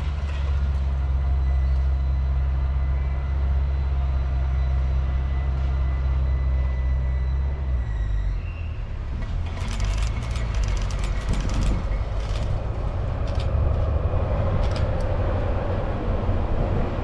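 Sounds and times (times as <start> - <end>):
train loud low drone: 0.0 - 17.0.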